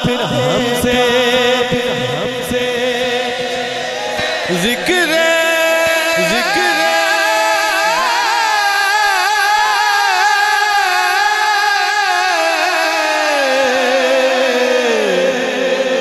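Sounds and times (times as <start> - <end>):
man singing a long note: 0.0 - 16.0.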